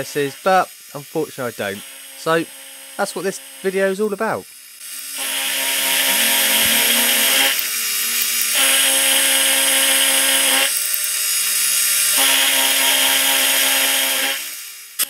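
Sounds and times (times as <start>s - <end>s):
end mill cutting steel: 0.0s - 15.0s
milling machine hum: 0.0s - 15.0s.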